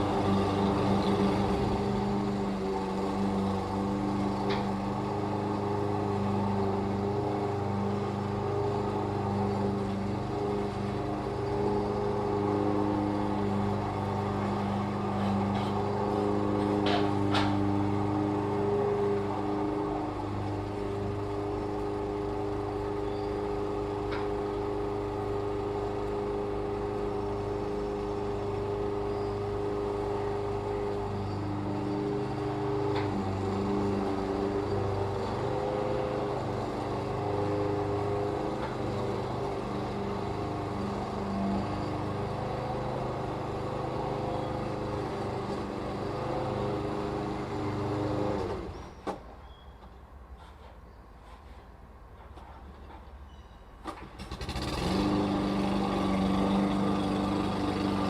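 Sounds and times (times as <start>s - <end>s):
lawn mower engine running: 0.0s - 48.8s, 53.8s - 58.0s.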